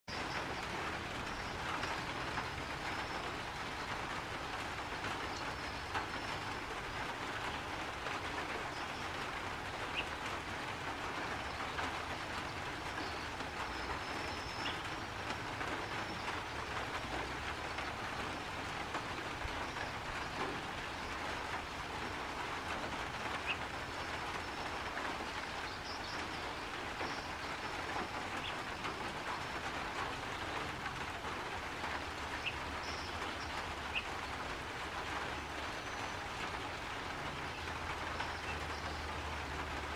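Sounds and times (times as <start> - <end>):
rushing outdoor background noise: 0.1 - 39.9.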